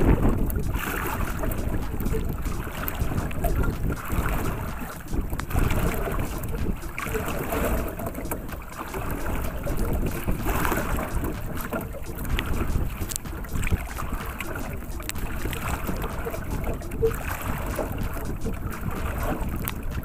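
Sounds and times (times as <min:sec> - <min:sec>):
water lapping against hull: 0:00.0 - 0:20.0
wind gusting on microphone: 0:00.0 - 0:20.0.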